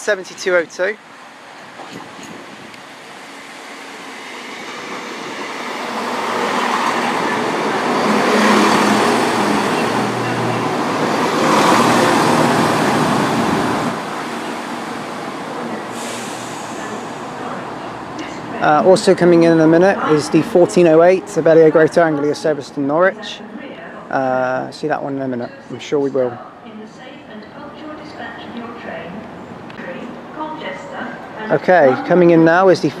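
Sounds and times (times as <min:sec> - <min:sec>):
diesel train passing: 0:00.0 - 0:33.0.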